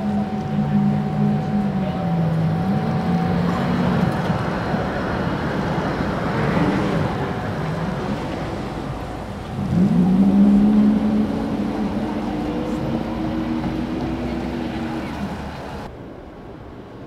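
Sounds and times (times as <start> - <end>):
tram drive whine: 0.0 - 17.0
wheels rumbling on rails: 0.0 - 17.0.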